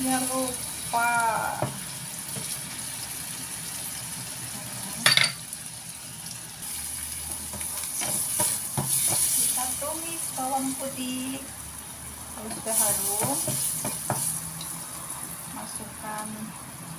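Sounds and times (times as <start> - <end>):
garlic sizzling in oil: 0.0 - 16.9
oil sizzling in frying pan: 0.0 - 16.9.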